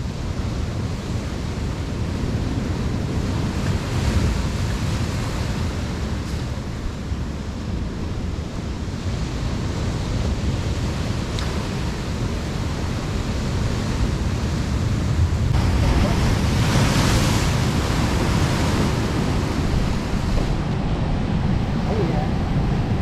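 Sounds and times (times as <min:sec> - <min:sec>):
ocean surf washing in: 0:00.0 - 0:23.0
wind rumbling on microphone: 0:00.0 - 0:23.0.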